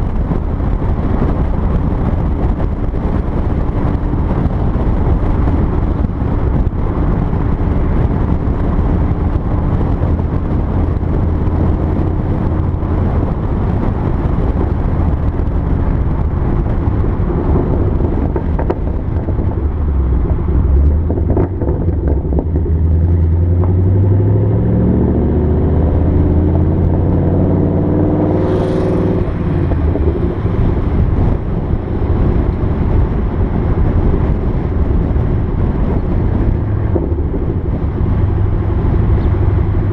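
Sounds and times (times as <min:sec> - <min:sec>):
car engine revving: 0:00.0 - 0:39.9
car exhaust crackles and pops: 0:00.0 - 0:39.9.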